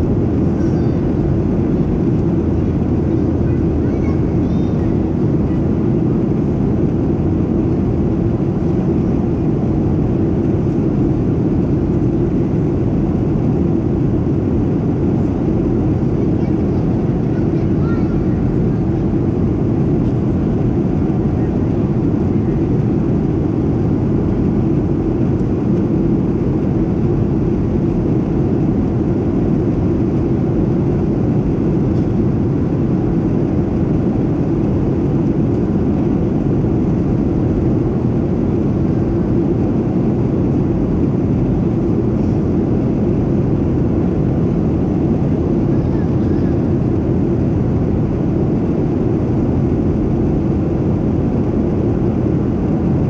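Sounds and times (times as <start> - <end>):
airplane engine drone: 0.0 - 53.0.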